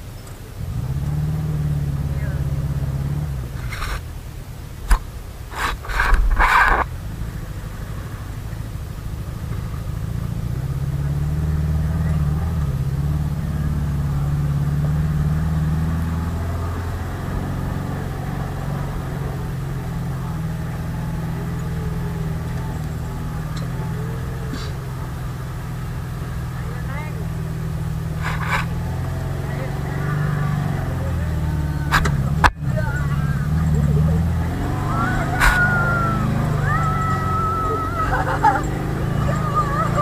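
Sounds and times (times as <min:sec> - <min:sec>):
car engine running inside cab: 0:00.0 - 0:40.0.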